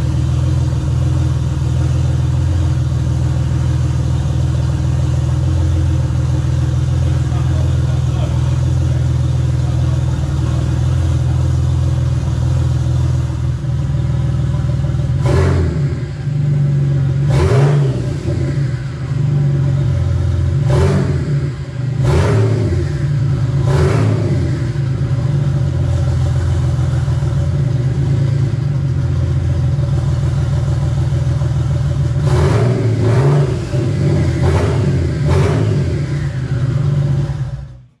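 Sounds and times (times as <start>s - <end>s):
car engine idling: 0.0s - 38.0s
engine throttle blips: 0.0s - 38.0s.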